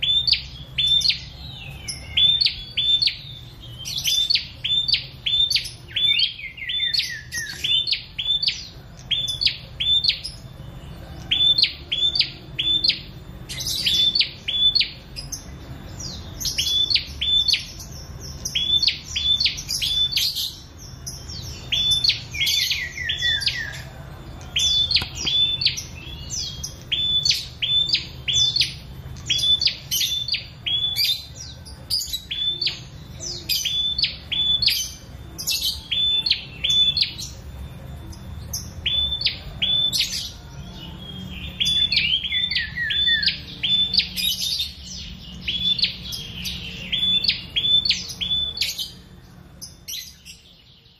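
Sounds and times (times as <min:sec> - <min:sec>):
bird chirping: 0:00.0 - 0:50.9.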